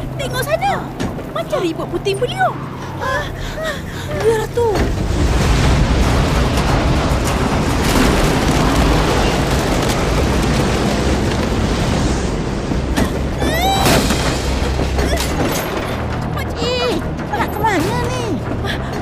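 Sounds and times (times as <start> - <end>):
roaring wind with deep rumble: 0.0 - 19.0.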